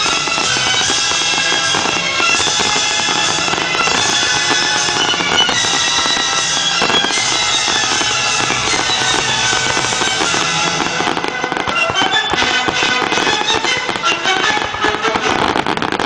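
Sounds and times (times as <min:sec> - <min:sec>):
fireworks crackling and popping: 0:00.0 - 0:16.0
loud music: 0:00.0 - 0:16.0.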